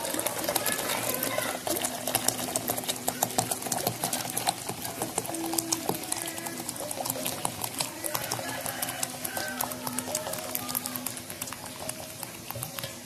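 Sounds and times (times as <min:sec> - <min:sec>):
hot water pouring into a jug: 0:00.0 - 0:13.0.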